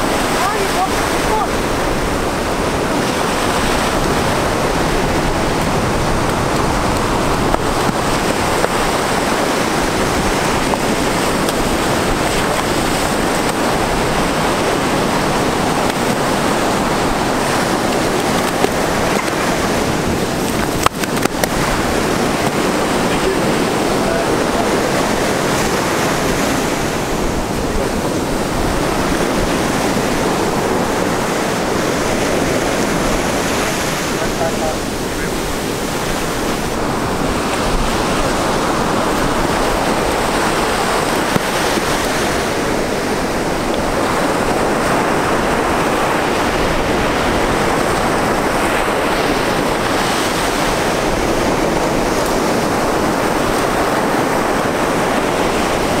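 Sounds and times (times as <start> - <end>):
ocean surf washing on beach: 0.0 - 56.0
wind buffeting microphone: 0.0 - 56.0.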